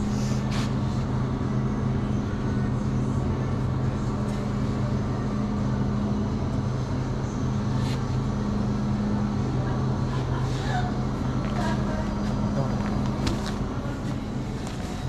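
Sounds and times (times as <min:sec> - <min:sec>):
refrigeration hum: 0:00.0 - 0:15.0.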